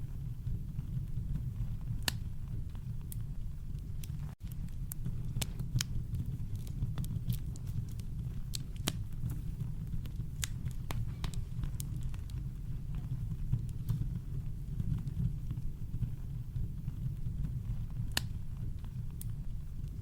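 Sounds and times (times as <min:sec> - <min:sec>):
campfire crackling and popping: 0:00.1 - 0:20.0.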